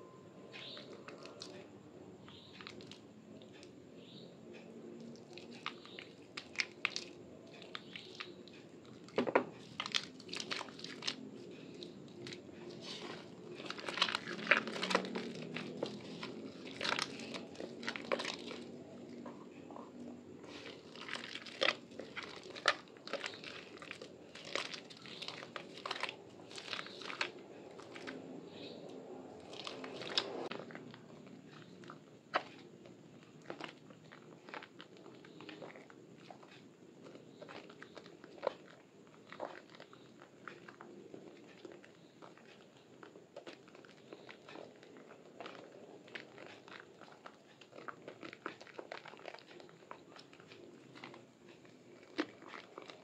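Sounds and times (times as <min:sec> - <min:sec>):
wet soap squishing in hands: 0:00.4 - 0:53.0.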